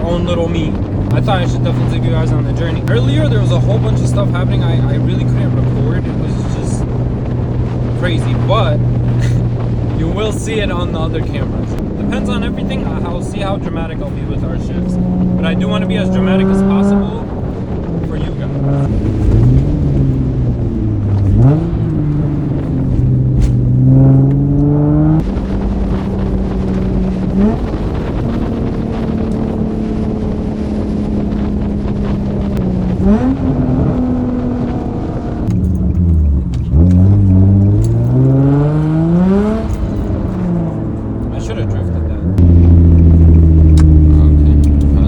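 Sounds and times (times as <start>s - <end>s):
car engine revving through gears: 0.0s - 45.0s.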